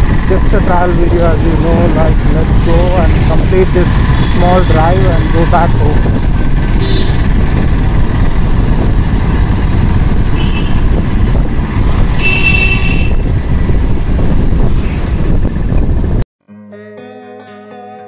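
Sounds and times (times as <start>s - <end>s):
motorcycle engine running: 0.0s - 16.2s
wind on microphone: 0.0s - 16.2s
road rumble: 0.0s - 16.3s.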